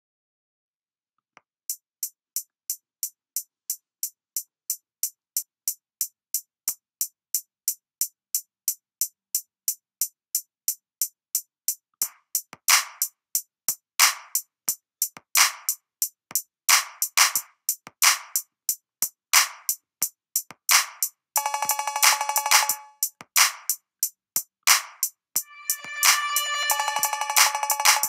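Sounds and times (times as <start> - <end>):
drum machine hi-hat ticking: 1.7 - 28.0.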